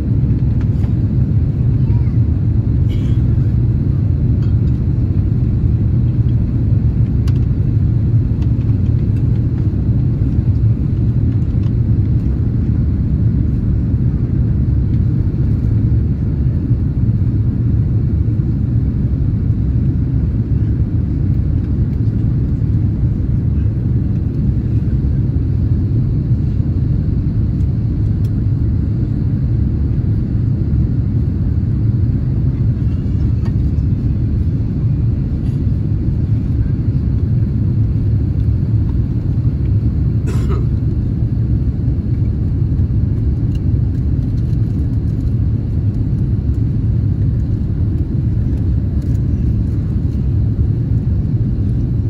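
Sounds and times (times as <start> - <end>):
airliner engine rumble in cabin: 0.0 - 52.0.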